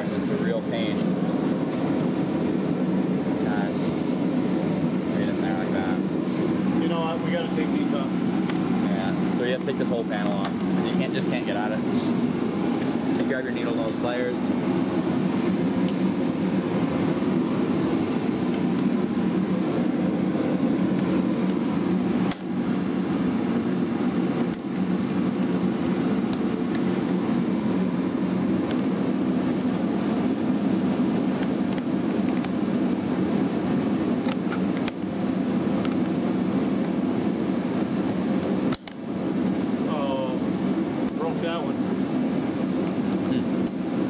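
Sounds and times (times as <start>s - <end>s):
low mechanical drone: 0.0s - 44.0s.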